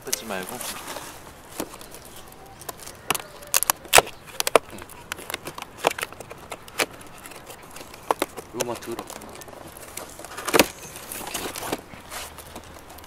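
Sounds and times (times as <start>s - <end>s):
cardboard snaps and scrapes: 0.1s - 13.0s.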